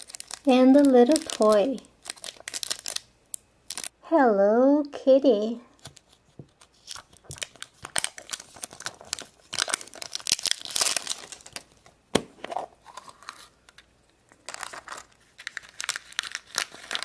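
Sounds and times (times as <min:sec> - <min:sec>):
paper crinkling: 0:00.0 - 0:03.1, 0:05.8 - 0:11.9, 0:12.5 - 0:17.0
plastic wrapping crinkling: 0:00.0 - 0:03.9, 0:05.8 - 0:17.0.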